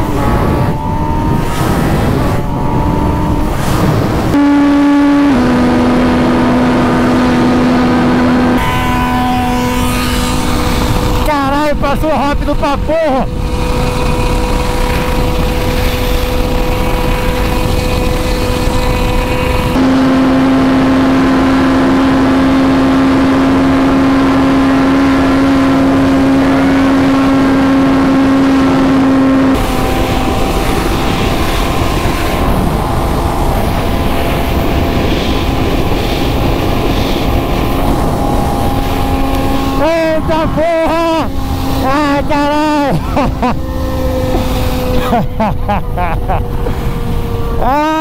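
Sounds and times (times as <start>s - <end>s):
motorcycle engine at high revs: 0.0s - 48.0s
wind rush: 0.0s - 48.0s.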